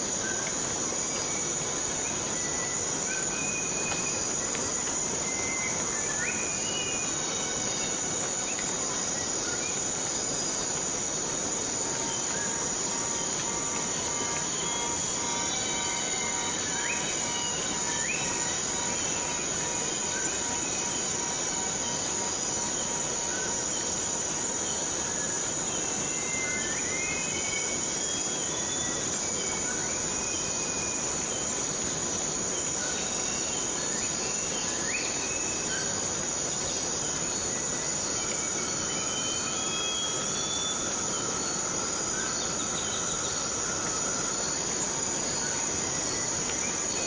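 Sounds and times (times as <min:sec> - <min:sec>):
high-pitched insect drone: 0:00.0 - 0:47.0
rain: 0:00.0 - 0:47.0.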